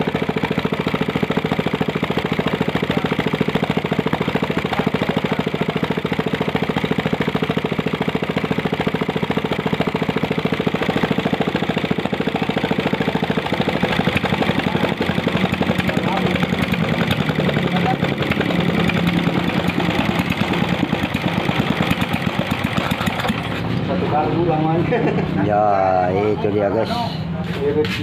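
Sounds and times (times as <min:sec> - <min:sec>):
petrol engine idling: 0:00.0 - 0:26.7.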